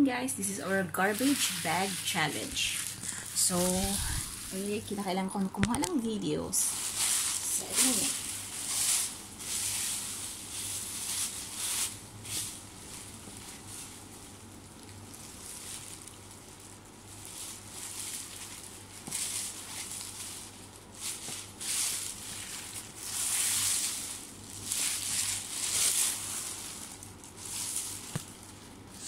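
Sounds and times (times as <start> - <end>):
low steady hum: 0.0 - 29.0
plastic bag rustling: 0.4 - 29.0.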